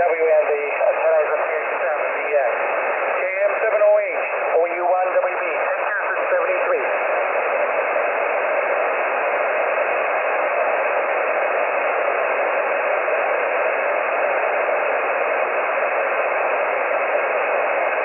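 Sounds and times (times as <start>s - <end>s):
radio band noise hiss: 0.0s - 18.0s.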